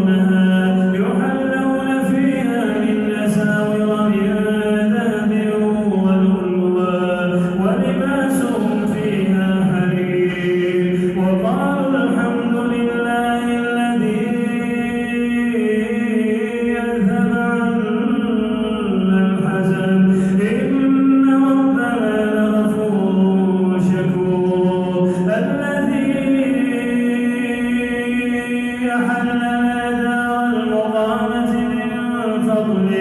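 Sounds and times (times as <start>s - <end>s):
man reciting melodically: 0.0s - 33.0s.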